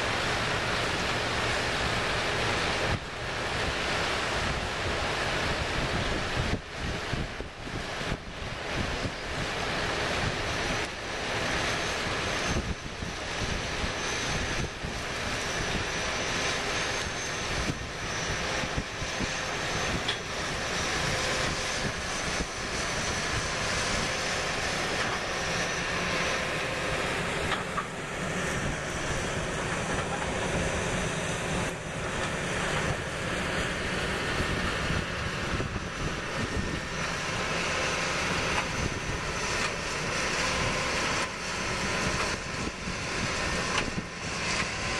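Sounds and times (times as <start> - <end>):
farm machinery engines droning: 0.0 - 44.9
wind buffeting microphone: 0.1 - 44.9
faint high whine: 8.2 - 44.9.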